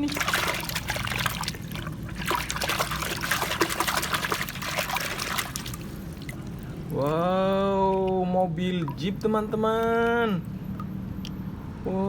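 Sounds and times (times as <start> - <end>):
water splashing and trickling: 0.0 - 11.3.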